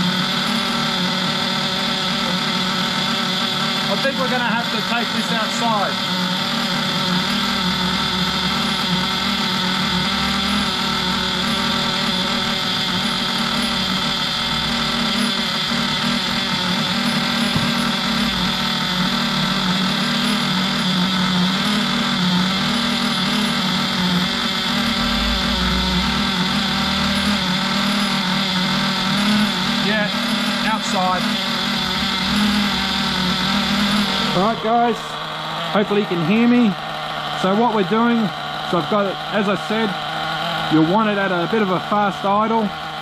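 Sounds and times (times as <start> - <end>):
model engine fast idle: 0.0 - 43.0.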